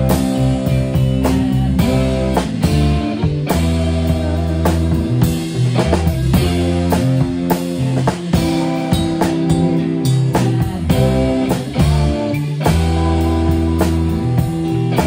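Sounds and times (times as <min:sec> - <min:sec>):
bass guitar: 0:00.0 - 0:15.0
drum kit beat with cymbals: 0:00.0 - 0:15.0
electric guitar: 0:00.0 - 0:15.0.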